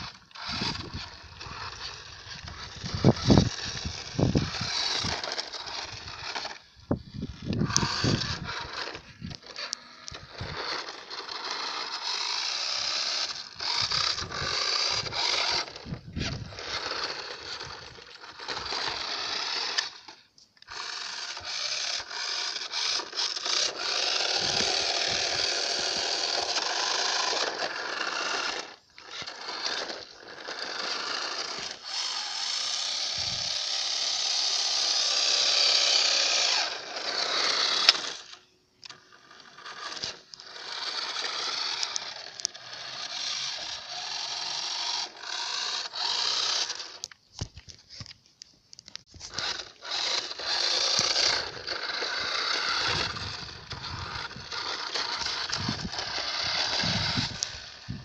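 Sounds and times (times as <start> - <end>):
toy car electric motor whining: 0.0 - 58.0.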